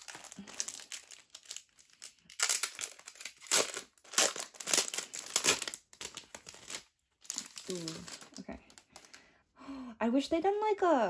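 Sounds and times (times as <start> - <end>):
plastic wrapping crinkling: 0.0 - 9.2.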